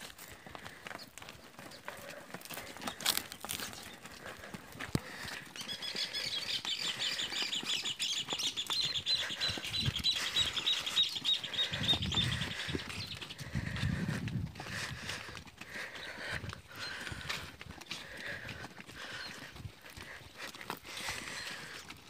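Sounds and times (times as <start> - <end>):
cattle hooves on dirt: 0.0 - 22.0
footsteps on dirt track: 0.0 - 22.0.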